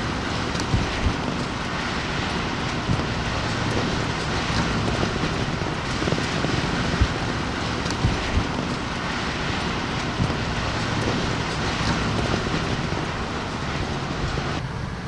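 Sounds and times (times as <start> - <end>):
gust thumps: 0.0 - 14.6
strong wind buffeting microphone: 0.0 - 15.0.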